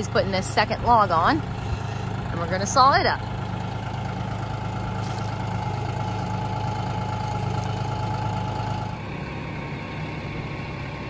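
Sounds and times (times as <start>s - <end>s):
steady whine: 0.0s - 11.0s
tractor diesel engine running: 0.0s - 11.0s.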